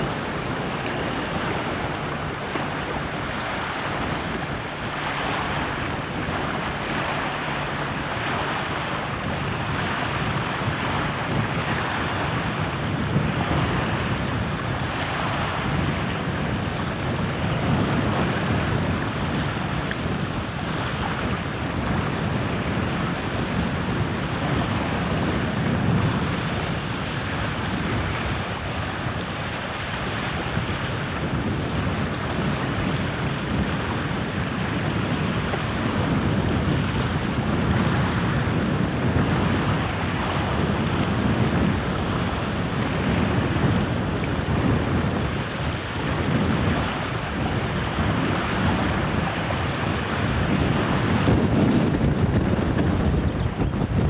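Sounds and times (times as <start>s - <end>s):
small waves lapping shore: 0.0s - 54.0s
wind gusting on microphone: 0.0s - 54.0s.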